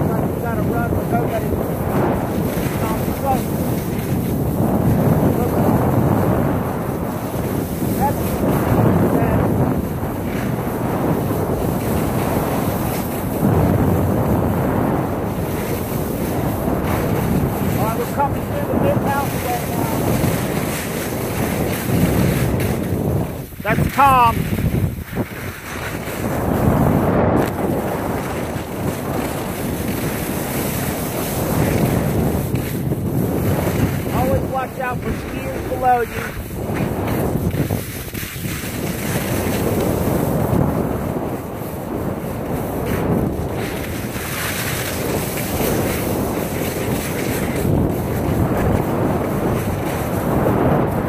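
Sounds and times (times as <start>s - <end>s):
wind buffeting microphone: 0.0s - 51.0s
skis hissing over snow: 0.1s - 51.0s.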